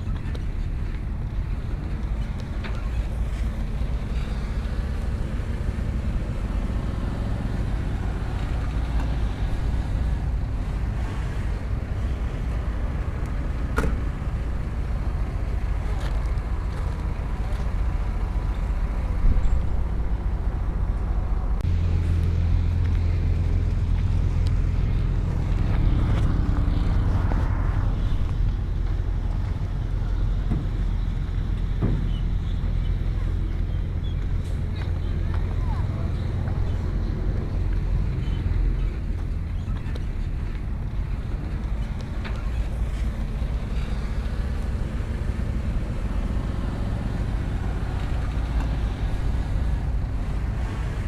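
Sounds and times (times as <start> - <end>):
diesel machinery engine rumble: 0.0 - 51.0.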